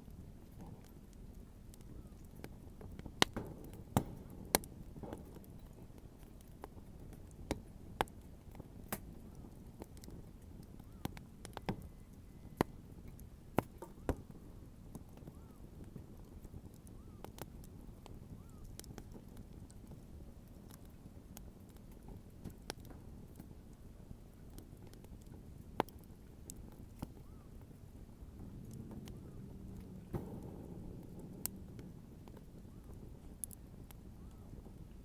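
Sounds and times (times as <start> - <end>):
burning wood popping and snapping: 0.0 - 35.0
low rumble of fire: 0.0 - 35.0.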